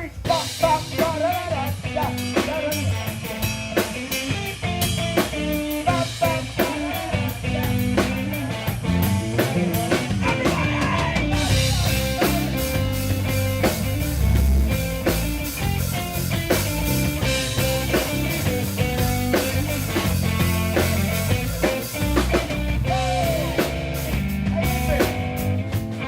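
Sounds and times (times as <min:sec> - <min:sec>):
bass guitar: 0:00.0 - 0:26.0
drum kit: 0:00.0 - 0:26.0
electric guitar: 0:00.0 - 0:26.0.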